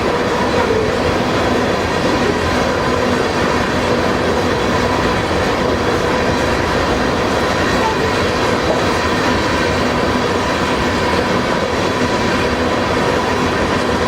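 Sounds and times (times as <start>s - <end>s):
freight train wheels on rails: 0.0s - 14.0s.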